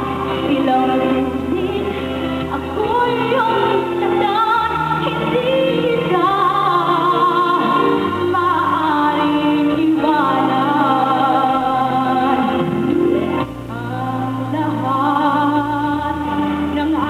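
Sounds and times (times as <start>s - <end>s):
instrumental backing: 0.0s - 17.0s
woman singing with vibrato: 0.0s - 17.0s.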